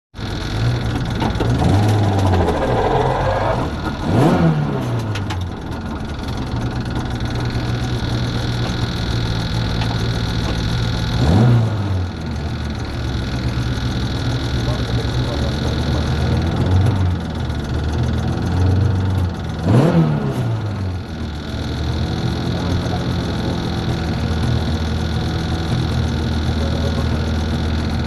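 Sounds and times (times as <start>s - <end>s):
car engine idling: 0.1s - 28.0s
engine throttle blips: 0.2s - 28.0s.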